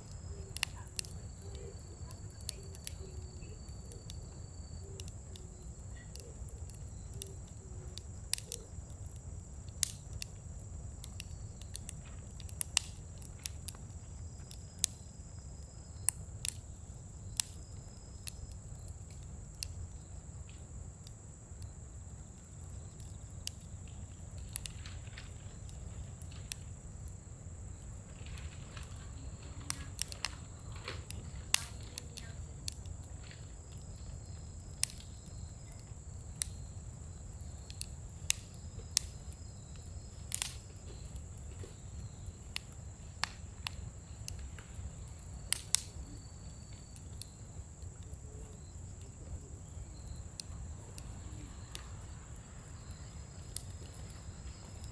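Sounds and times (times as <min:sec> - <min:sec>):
fire crackling and popping: 0:00.0 - 0:54.9
low rumble of burning: 0:00.0 - 0:54.9.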